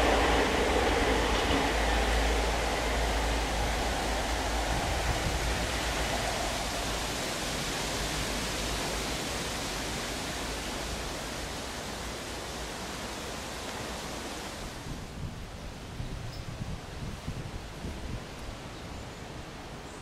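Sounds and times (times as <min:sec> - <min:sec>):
train rumbling through tunnel: 0:00.0 - 0:20.0.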